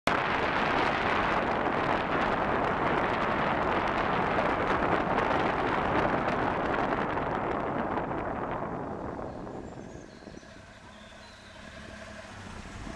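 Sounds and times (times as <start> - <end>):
car road noise: 0.1 - 12.9.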